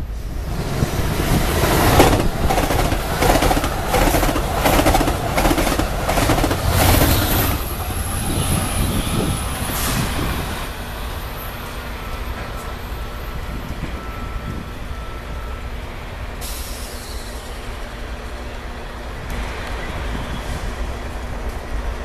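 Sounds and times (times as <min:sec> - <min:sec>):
diesel locomotive passing: 0:00.0 - 0:22.0
passenger train passing: 0:00.0 - 0:22.0.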